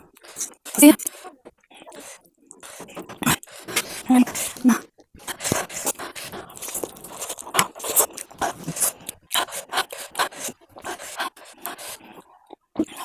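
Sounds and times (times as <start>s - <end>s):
slurping and chewing noodles: 0.0s - 13.0s.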